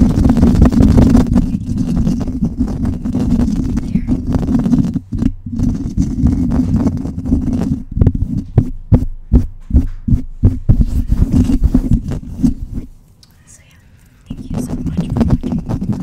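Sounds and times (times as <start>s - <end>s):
microphone being scratched: 0.0s - 16.0s.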